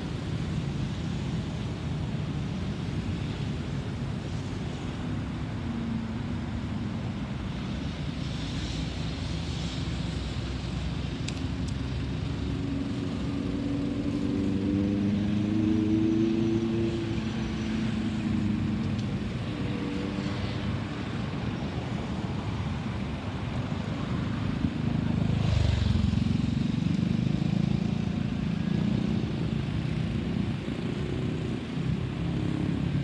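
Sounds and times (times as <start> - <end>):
airplane rumble overhead: 0.0 - 33.0.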